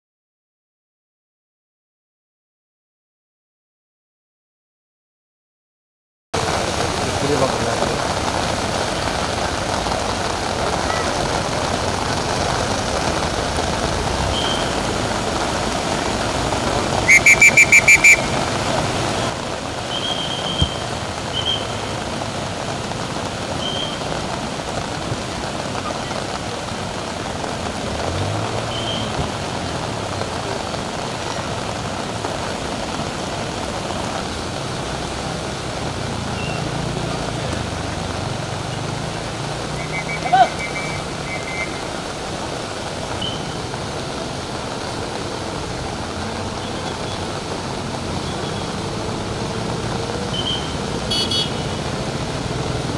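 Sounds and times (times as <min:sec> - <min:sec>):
heavy rain on a street: 0:06.4 - 0:52.9
rushing floodwater: 0:06.4 - 0:52.9.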